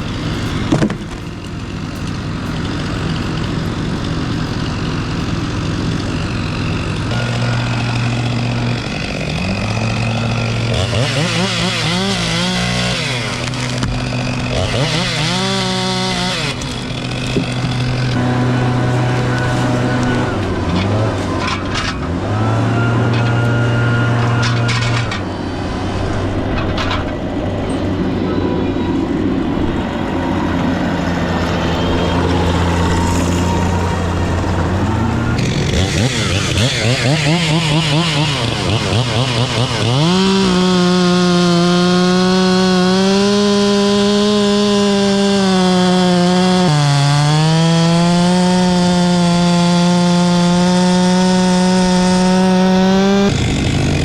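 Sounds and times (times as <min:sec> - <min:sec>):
chainsaw engine revving: 0:00.0 - 0:26.3, 0:29.8 - 0:54.0.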